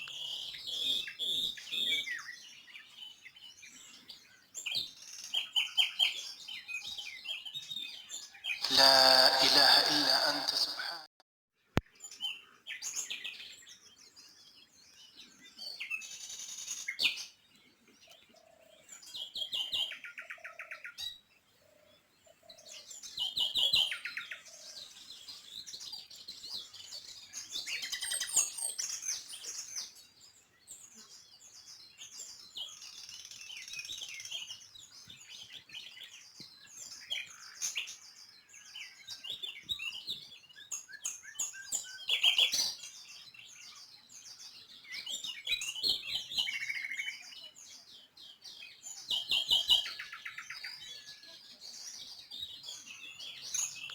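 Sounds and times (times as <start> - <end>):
small birds chirping and trilling: 0.0 - 9.3, 11.8 - 53.9.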